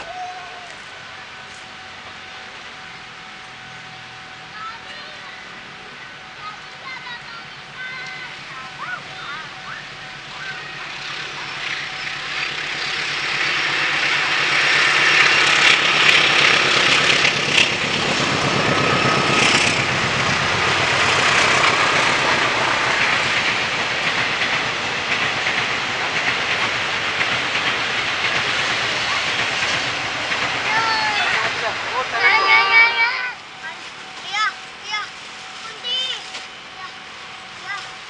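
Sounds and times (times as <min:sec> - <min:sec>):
train rumble and rail clatter: 0:00.0 - 0:38.0.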